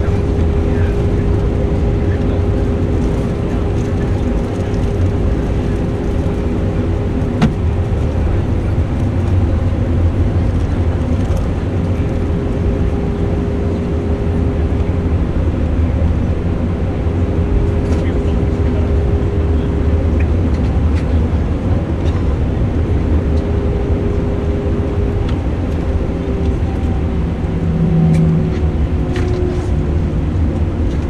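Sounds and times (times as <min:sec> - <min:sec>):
aircraft engines humming: 0:00.0 - 0:31.0.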